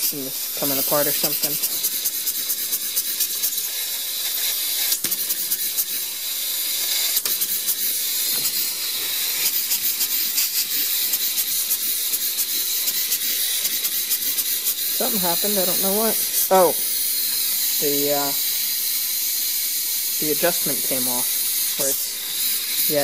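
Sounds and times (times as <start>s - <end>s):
steam engine hissing: 0.0s - 23.0s.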